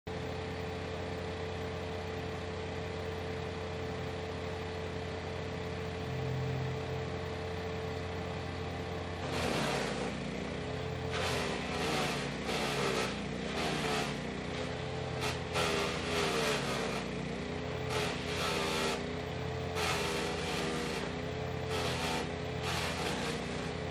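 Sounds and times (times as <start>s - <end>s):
wood chipper engine running: 0.1s - 23.9s.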